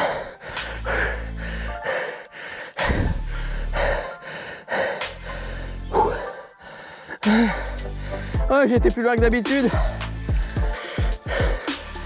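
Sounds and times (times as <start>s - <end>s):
person breathing hard: 0.0s - 8.5s, 9.7s - 12.0s
background music with bass: 0.0s - 12.0s.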